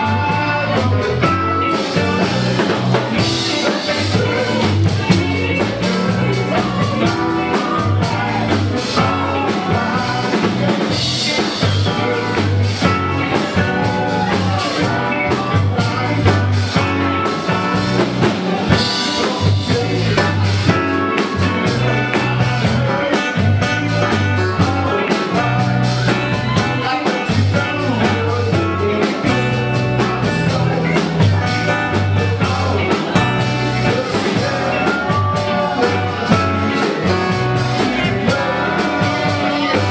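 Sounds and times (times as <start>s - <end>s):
rock band playing: 0.0s - 39.9s
walking bass line: 0.0s - 39.9s.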